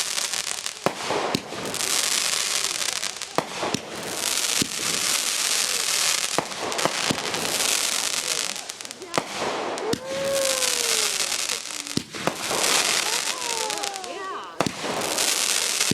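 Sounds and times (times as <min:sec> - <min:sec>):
fireworks hissing sprays: 0:00.0 - 0:15.9
fireworks pops and cracks: 0:00.0 - 0:15.9.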